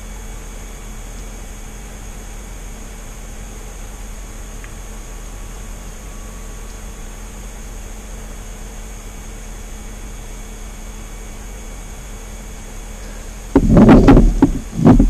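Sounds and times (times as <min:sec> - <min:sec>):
steady low hum with hiss: 0:00.0 - 0:15.0.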